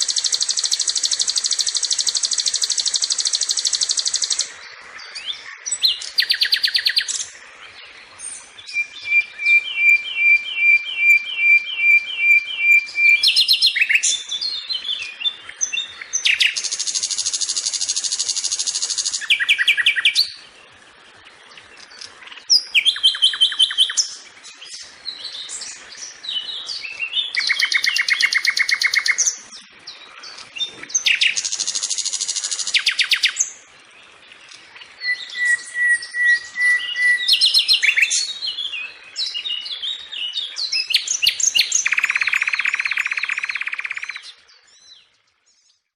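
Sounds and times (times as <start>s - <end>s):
flycatcher singing: 0.0s - 20.6s, 21.2s - 45.9s.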